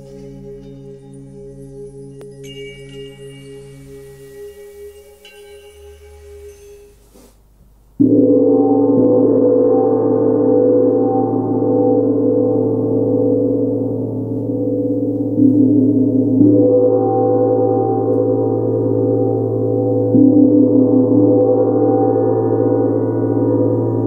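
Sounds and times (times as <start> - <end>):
gong ringing: 2.4 - 7.1, 8.0 - 24.0.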